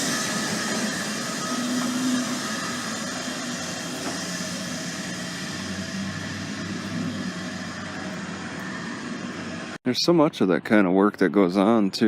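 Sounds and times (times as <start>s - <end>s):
engine drone with hiss: 0.0s - 10.2s.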